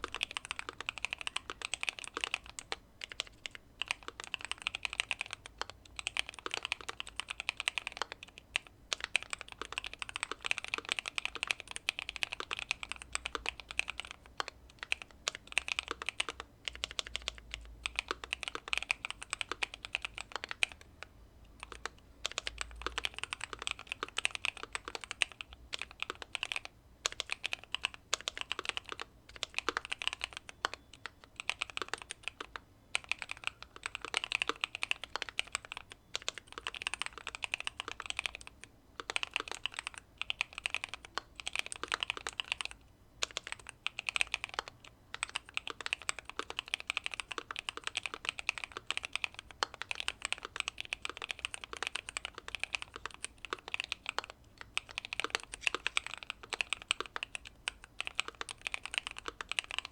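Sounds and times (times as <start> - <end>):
fast typing on mechanical keyboard: 0.0 - 21.0, 21.6 - 59.9.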